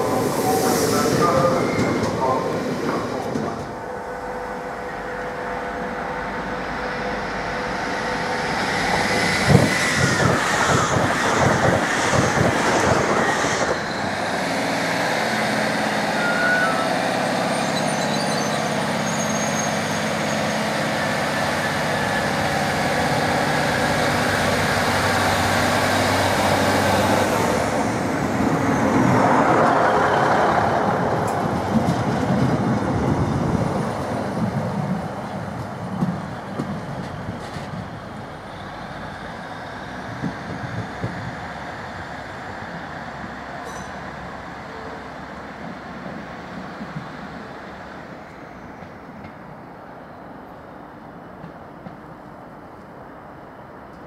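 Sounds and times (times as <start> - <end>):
high train whine: 0.0 - 54.0
train drone: 0.0 - 54.0.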